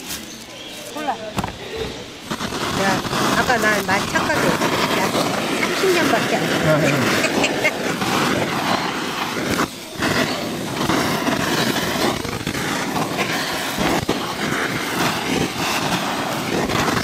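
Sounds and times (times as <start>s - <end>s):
hubbub of distant voices: 0.0s - 14.8s.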